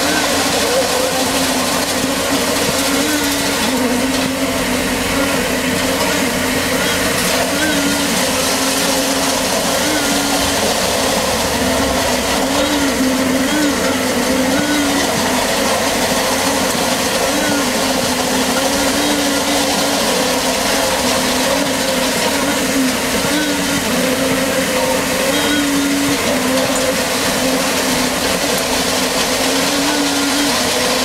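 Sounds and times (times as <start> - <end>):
machine droning: 0.0 - 31.0
roller rumbling: 0.0 - 31.0.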